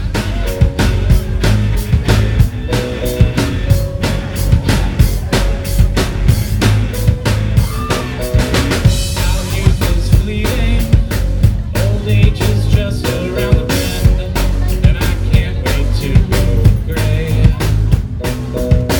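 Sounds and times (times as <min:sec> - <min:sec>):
drum kit beat: 0:00.0 - 0:18.9
live rock band playing: 0:00.0 - 0:18.9.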